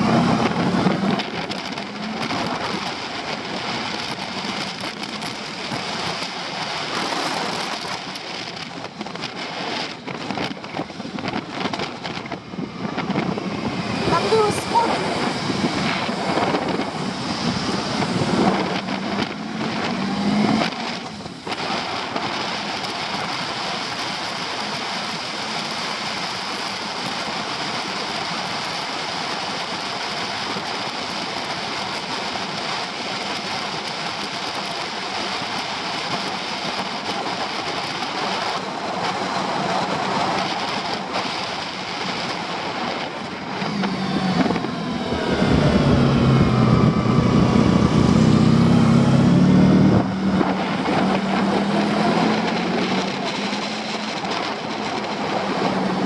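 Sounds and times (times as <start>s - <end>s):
motorcycle engine: 0.0s - 56.0s
road noise: 0.0s - 56.0s
wind rushing over microphone: 0.0s - 56.0s.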